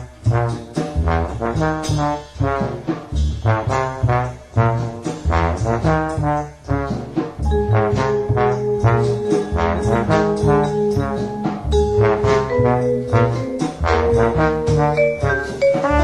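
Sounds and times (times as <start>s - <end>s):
double bass walking line: 0.0s - 16.0s
trombone: 0.0s - 16.0s
trumpet: 0.0s - 16.0s.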